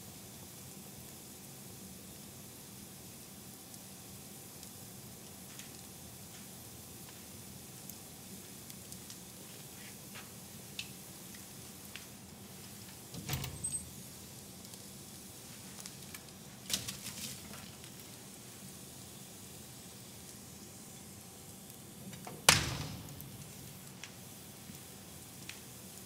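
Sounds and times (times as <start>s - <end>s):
wood fire crackling: 0.1s - 26.0s.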